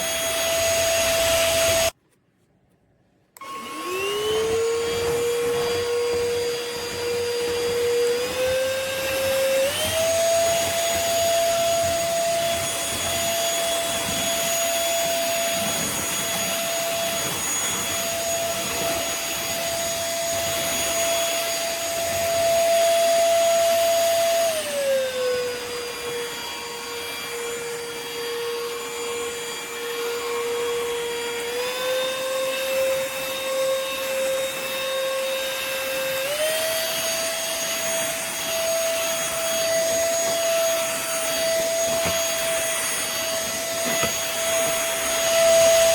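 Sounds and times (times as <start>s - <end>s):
stick vacuum motor whine: 0.0s - 2.0s, 3.3s - 45.9s.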